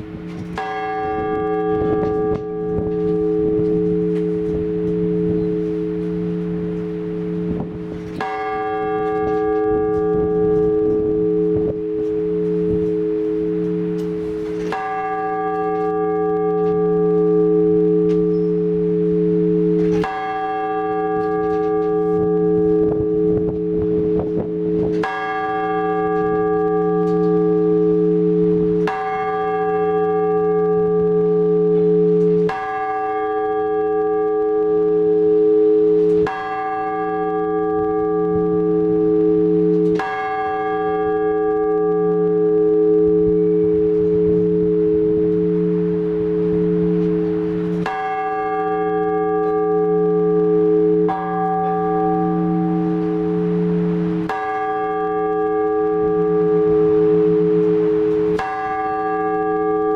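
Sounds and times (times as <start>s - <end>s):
church bell ringing: 0.0s - 59.9s.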